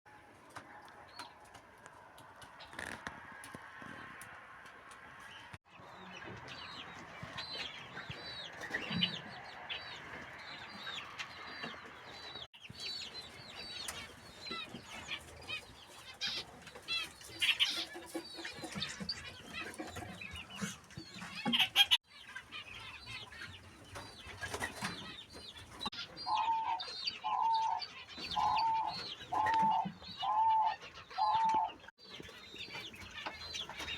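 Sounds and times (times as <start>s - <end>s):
chickens clucking: 0.2s - 33.9s
small birds chirping: 5.2s - 33.9s.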